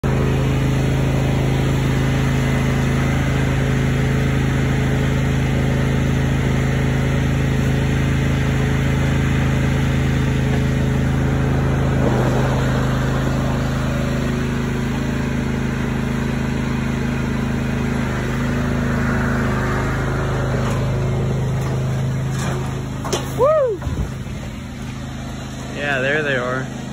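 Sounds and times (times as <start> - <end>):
engine running steadily: 0.0 - 26.9.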